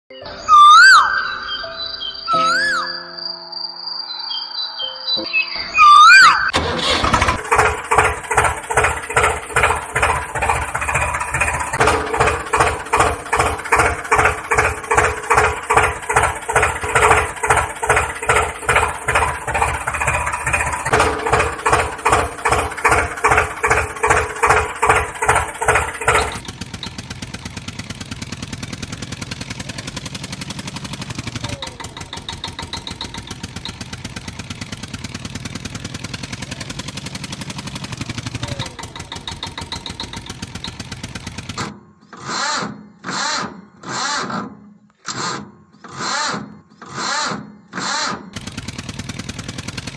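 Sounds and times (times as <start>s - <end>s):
tractor engine chugging: 5.8s - 44.1s, 45.8s - 49.9s.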